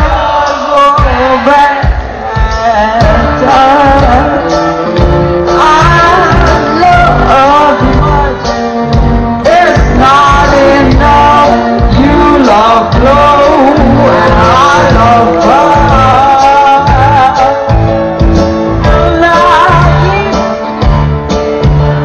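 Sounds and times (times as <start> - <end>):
woman singing into a microphone: 0.0 - 8.6, 9.4 - 17.7, 18.8 - 20.9
live band playing: 0.0 - 22.0.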